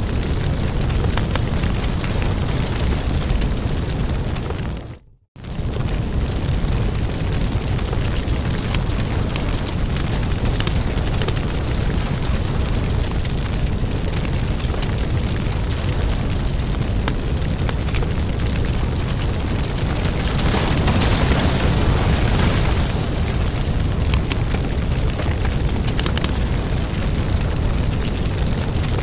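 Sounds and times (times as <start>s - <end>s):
fire rumbling and hissing: 0.0s - 29.0s
wood fire crackling and popping: 0.0s - 29.0s.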